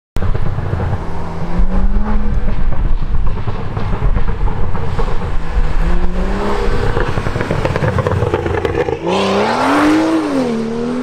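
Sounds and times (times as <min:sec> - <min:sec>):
exhaust crackle: 0:00.2 - 0:09.6
car engine revving past: 0:00.5 - 0:11.0.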